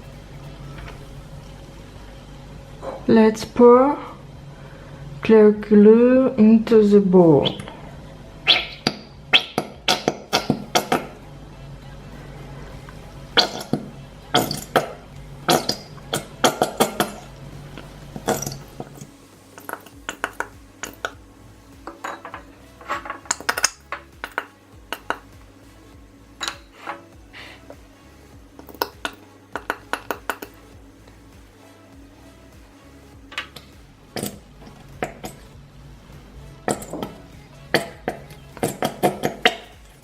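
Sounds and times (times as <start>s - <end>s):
quiet background music: 0.0s - 40.0s.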